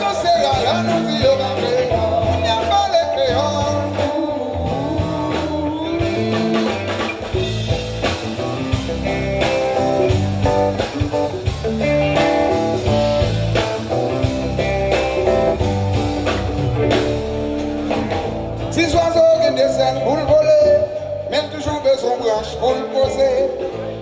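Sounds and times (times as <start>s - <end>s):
bass guitar: 0.0s - 24.0s
drums: 0.0s - 24.0s
electric guitar lines: 0.0s - 24.0s.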